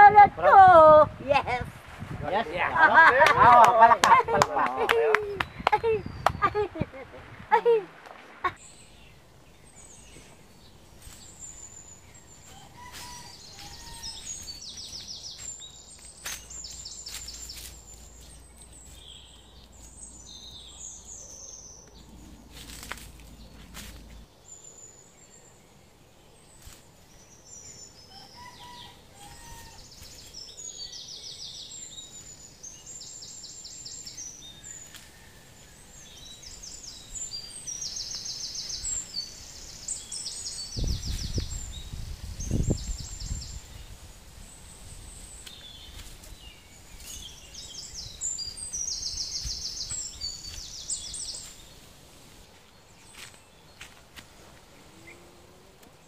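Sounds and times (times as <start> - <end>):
small birds trilling and chirping: 2.2 - 7.7, 8.5 - 56.0.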